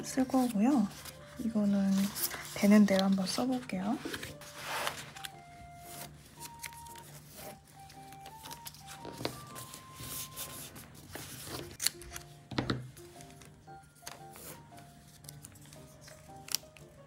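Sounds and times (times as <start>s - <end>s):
soft background music: 0.0s - 17.0s
paper rustling and clicks: 0.4s - 17.0s.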